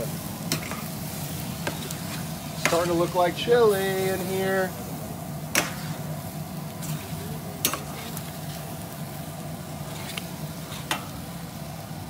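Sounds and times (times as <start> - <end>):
light sizzling: 0.0 - 12.0
steady low hum: 0.0 - 12.0.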